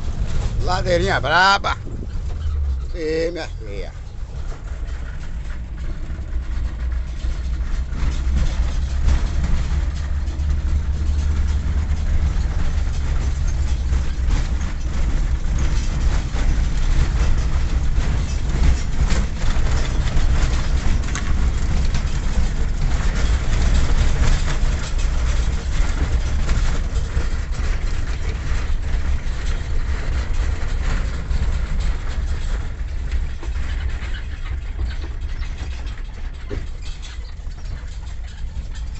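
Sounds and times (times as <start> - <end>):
small rattles and knocks: 0.0 - 38.9
vehicle rumble and rush: 0.0 - 38.9.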